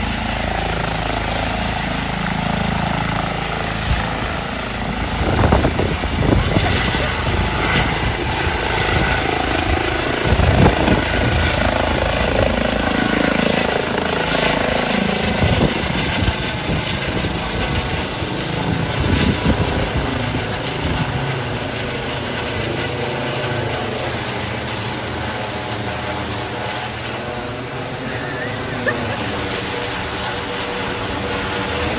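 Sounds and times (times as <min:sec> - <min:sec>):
aircraft engine drone: 0:00.0 - 0:31.9.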